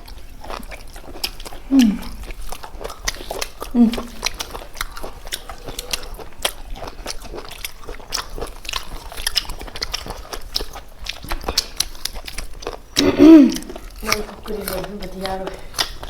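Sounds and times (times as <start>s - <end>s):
chewing and biting chicken: 0.0s - 16.0s.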